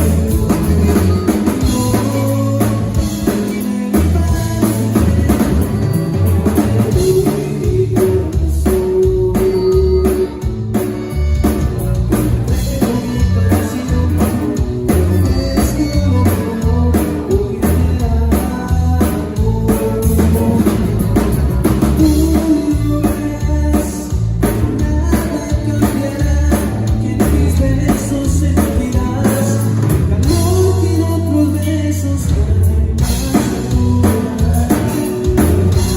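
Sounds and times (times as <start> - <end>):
bass line: 0.0 - 35.9
drum kit: 0.0 - 35.9
guitar: 0.0 - 35.9
person singing: 0.0 - 35.9.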